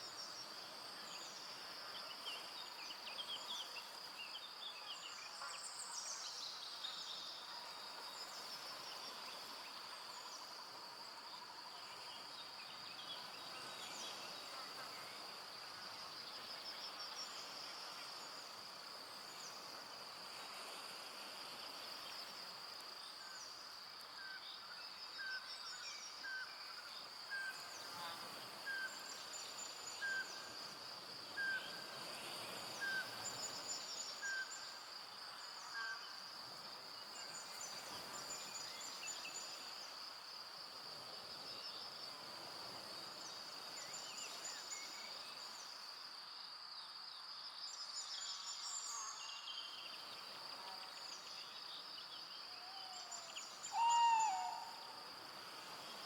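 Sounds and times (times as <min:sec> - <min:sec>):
high-pitched insect trill: 0:08.1 - 0:56.0.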